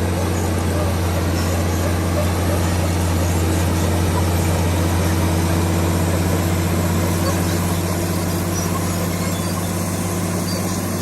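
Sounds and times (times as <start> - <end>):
bulldozer diesel engine humming: 0.0 - 11.0.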